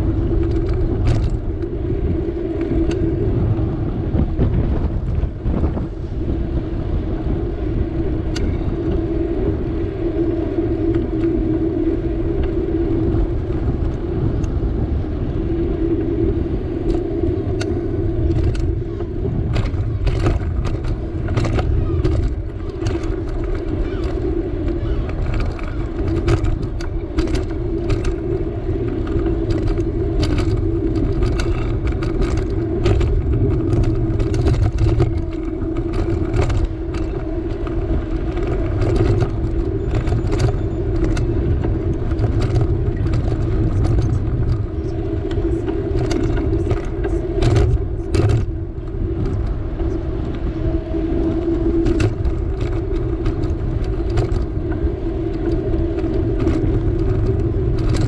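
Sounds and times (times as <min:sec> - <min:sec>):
bicycle clicks and rattles: 0:00.0 - 0:58.0
wind and tyre rumble: 0:00.0 - 0:58.0.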